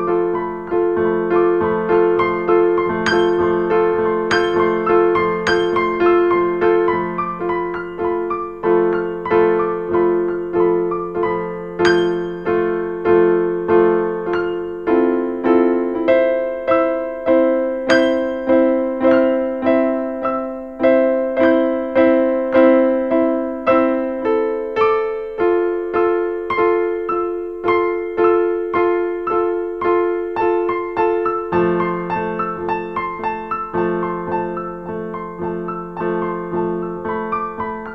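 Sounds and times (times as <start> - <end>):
piano playing repeated chords: 0.0 - 37.9.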